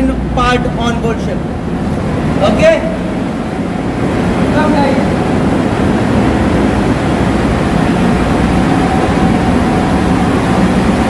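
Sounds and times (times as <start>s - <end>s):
faint steady whine: 0.0s - 11.0s
ship engine room machinery: 0.0s - 11.0s.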